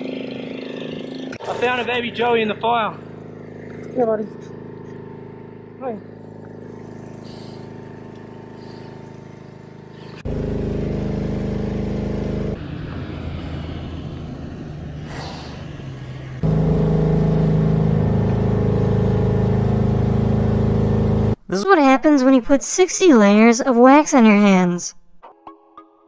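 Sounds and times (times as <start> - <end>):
vehicle engine idling: 0.0 - 21.4.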